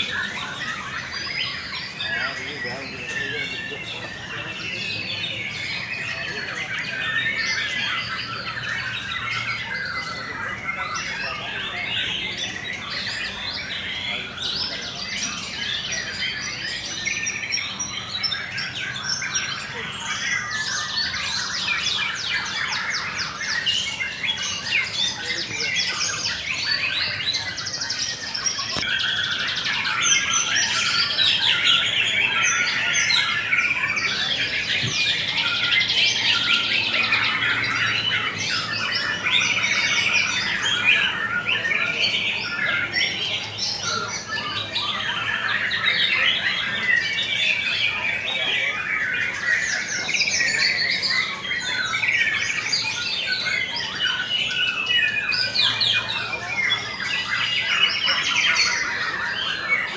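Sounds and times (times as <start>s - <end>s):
birds singing chorus: 0.0s - 59.9s.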